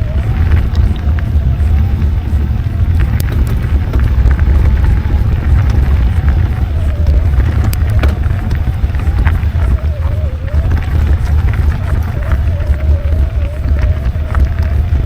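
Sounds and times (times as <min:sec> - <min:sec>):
mountain bike rattling on dirt: 0:00.0 - 0:15.0
wind rush on microphone: 0:00.0 - 0:15.0.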